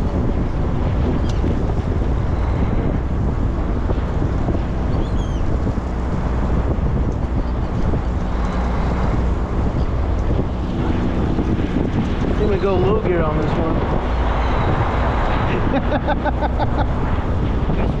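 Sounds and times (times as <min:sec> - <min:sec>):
boat engine hum: 0:00.0 - 0:18.0
wind buffeting microphone: 0:00.0 - 0:18.0.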